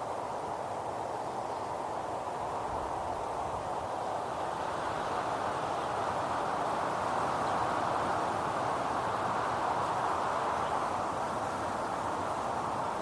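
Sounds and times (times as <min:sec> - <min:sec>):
wind through forest trees: 0:00.0 - 0:13.0.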